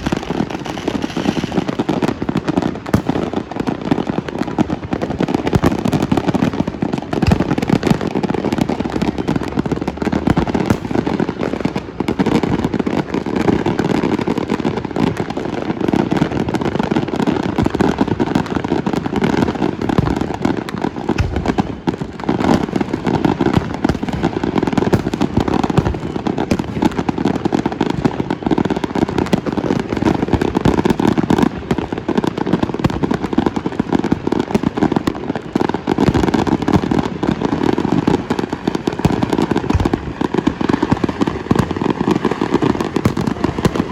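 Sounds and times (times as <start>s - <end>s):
fireworks and firecrackers banging: 0.0s - 43.9s.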